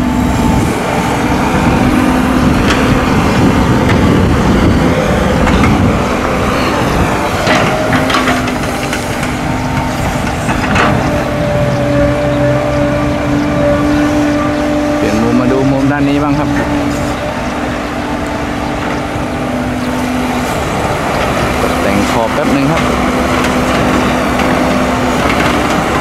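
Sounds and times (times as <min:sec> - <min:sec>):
heavy diesel machinery running: 0:00.0 - 0:26.0.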